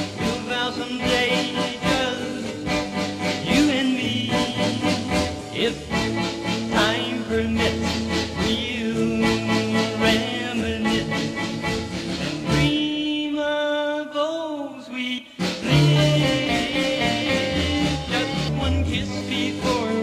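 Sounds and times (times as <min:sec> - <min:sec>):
band with steady beat: 0:00.0 - 0:12.8, 0:15.4 - 0:20.0
man singing: 0:00.0 - 0:20.0.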